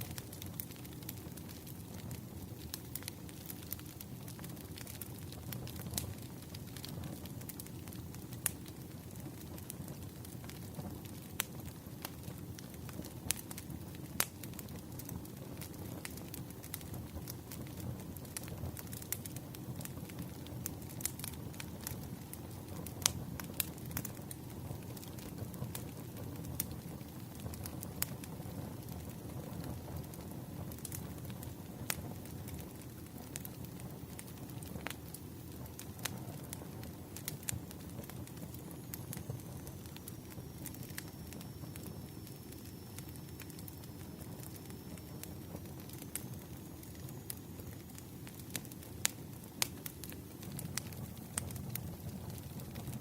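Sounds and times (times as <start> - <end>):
low rush of flames: 0.0 - 53.0
wood fire crackling: 0.0 - 53.0.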